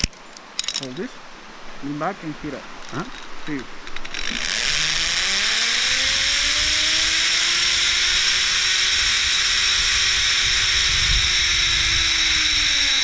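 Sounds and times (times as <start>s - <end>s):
zip line pulleys whirring: 0.0s - 0.9s, 2.8s - 13.0s.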